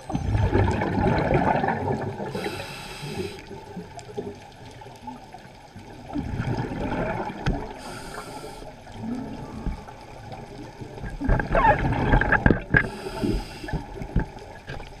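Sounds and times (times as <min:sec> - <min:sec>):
underwater bubbling gurgles: 0:00.0 - 0:15.0.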